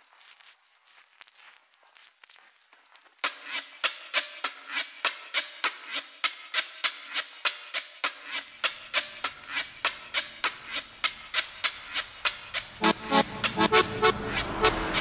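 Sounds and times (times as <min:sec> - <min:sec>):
steady evenly spaced clicking: 0:00.0 - 0:15.0.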